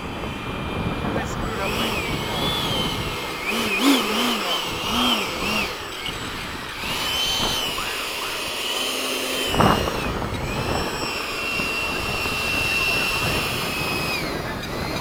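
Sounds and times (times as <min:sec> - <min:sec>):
rc jet whining: 0:00.0 - 0:15.0.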